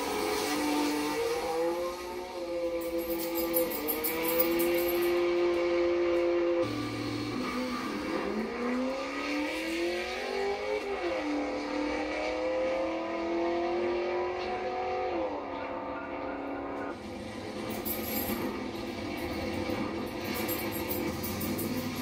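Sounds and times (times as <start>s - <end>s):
racing engine accelerating hard: 0.0s - 22.0s.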